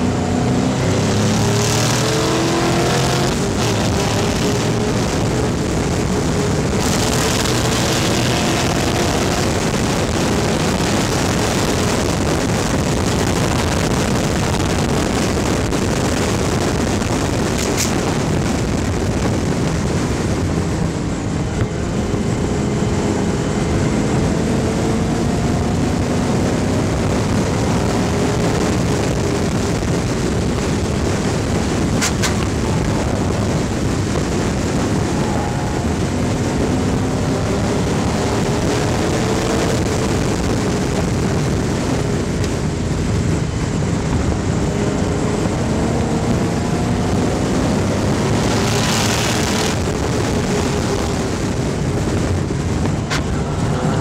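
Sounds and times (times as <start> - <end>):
racing engine revving: 0.0 - 54.0
wind and road noise: 0.0 - 54.0.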